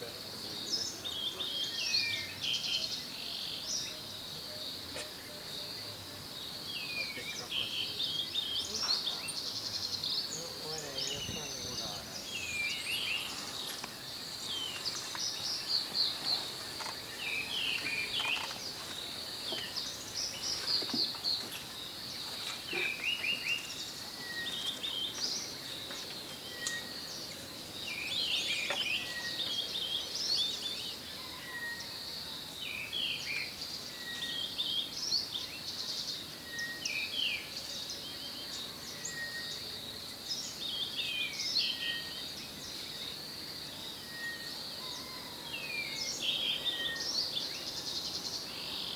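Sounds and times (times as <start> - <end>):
birds chirping and trilling: 0.0 - 48.9.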